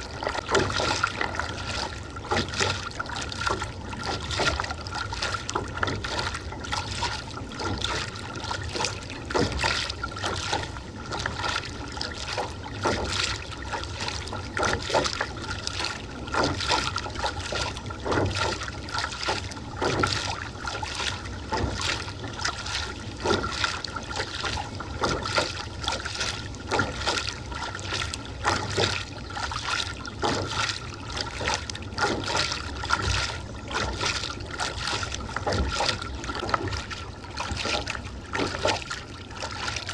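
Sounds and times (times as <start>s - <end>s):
paddle splashing water: 0.0s - 39.9s
water along a hull: 0.0s - 39.9s.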